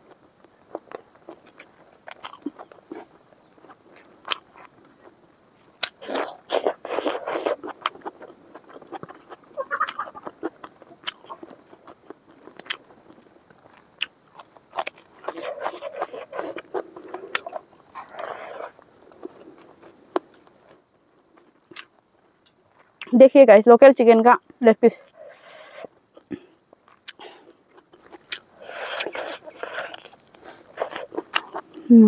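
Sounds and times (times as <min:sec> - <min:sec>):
chewing and crunching: 0:00.0 - 0:23.1, 0:25.0 - 0:32.0.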